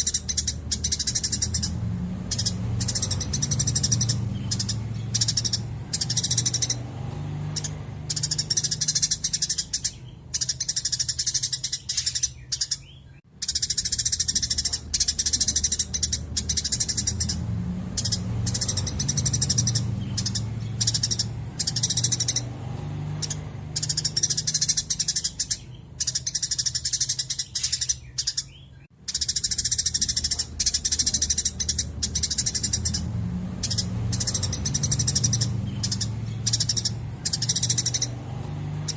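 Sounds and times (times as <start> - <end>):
rapid chirping birdsong: 0.0 - 38.9.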